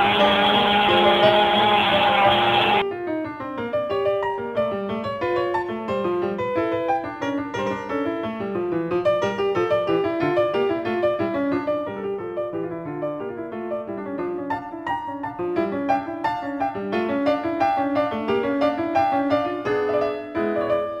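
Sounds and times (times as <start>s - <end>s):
fast piano music: 0.0s - 21.0s.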